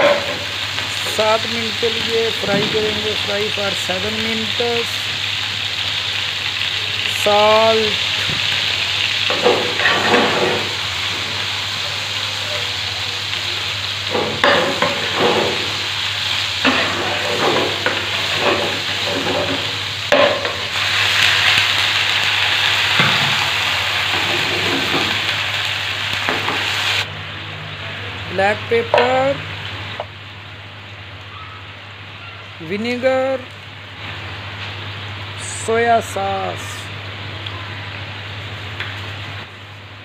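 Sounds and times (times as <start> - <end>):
chicken sizzling in oil: 0.0 - 32.5.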